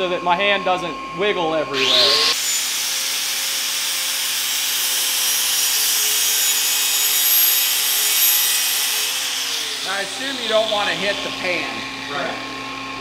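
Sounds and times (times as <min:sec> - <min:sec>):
angle grinder grinding steel: 0:01.7 - 0:13.0.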